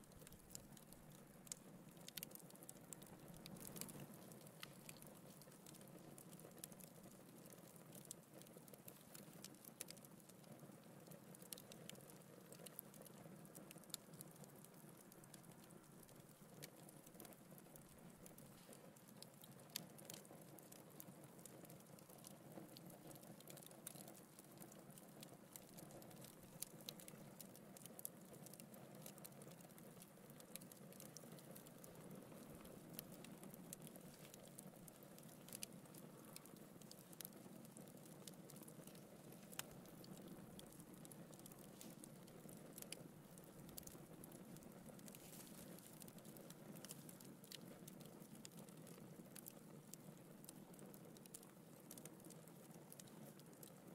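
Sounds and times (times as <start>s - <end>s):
fire crackling and popping: 0.0s - 53.9s
rush of burning logs: 0.1s - 53.9s.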